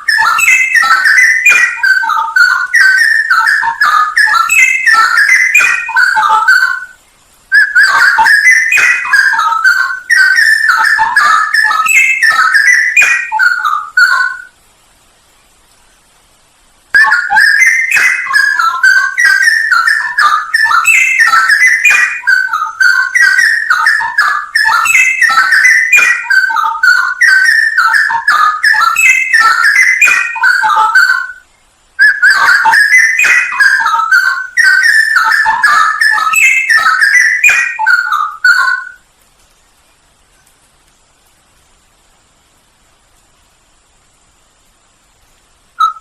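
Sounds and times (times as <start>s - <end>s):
bird singing whistled warbles: 0.0s - 14.6s, 16.9s - 39.1s, 45.8s - 46.0s.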